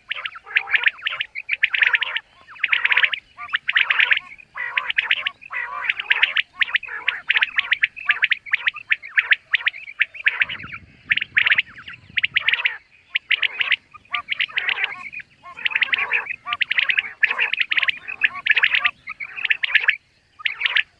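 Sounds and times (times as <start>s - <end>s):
quail calling: 0.0s - 20.9s.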